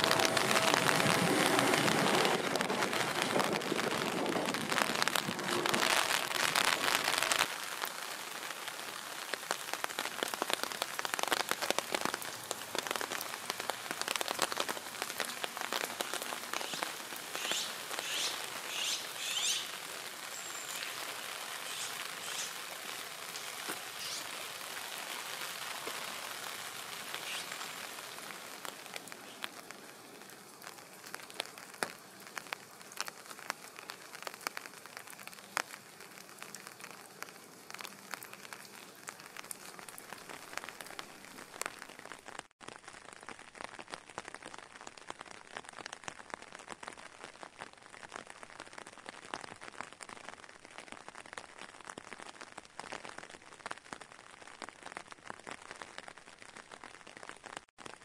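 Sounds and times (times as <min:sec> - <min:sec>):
raindrops ticking close by: 0:00.0 - 0:58.0
steady rain falling: 0:00.0 - 0:58.0.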